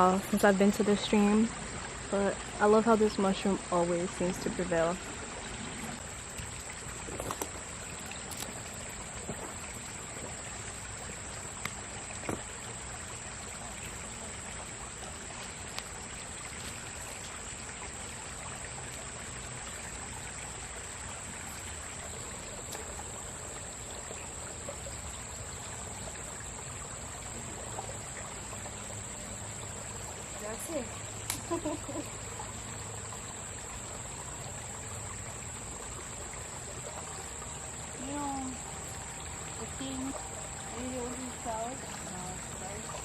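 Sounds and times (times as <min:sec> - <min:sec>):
small stream trickling: 0:00.0 - 0:43.0.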